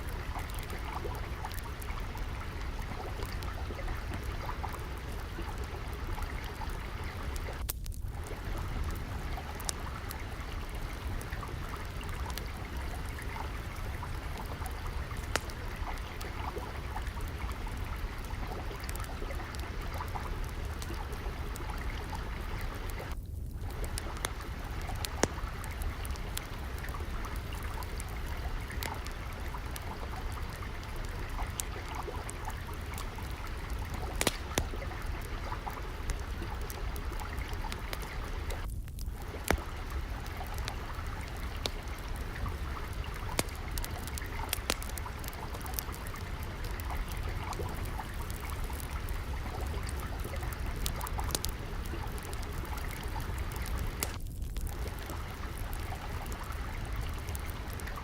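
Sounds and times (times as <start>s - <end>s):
trickling water: 0.0s - 58.0s
wood fire crackling: 0.0s - 58.0s.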